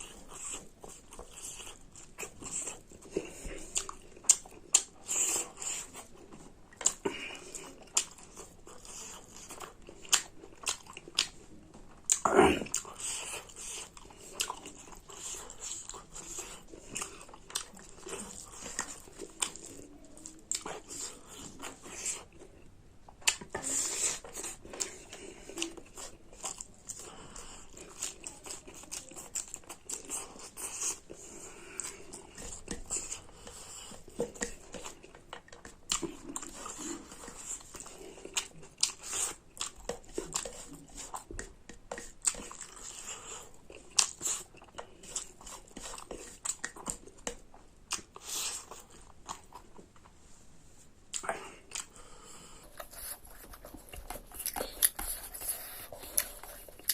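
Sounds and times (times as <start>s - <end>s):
person chewing and eating: 0.0s - 56.9s.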